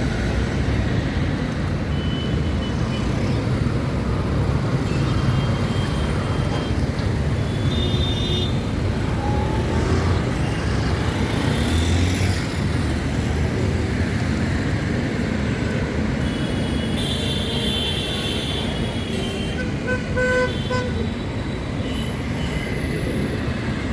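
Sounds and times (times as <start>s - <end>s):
street traffic rumble: 0.0s - 23.9s.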